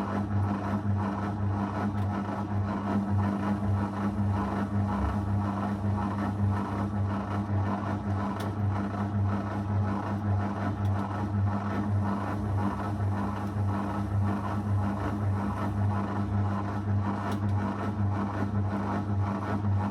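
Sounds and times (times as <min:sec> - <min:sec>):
washing machine churning: 0:00.0 - 0:19.9
washing machine hum: 0:00.0 - 0:19.9.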